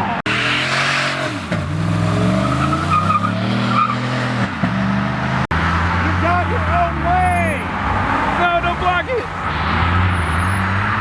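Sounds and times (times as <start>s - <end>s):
tires squealing: 0.0s - 11.0s
car engine revving: 0.3s - 11.0s.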